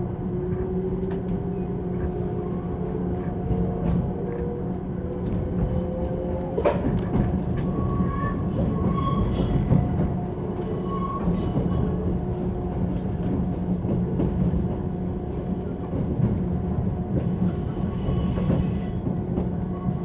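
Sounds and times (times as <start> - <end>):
train running hum: 0.0 - 20.0.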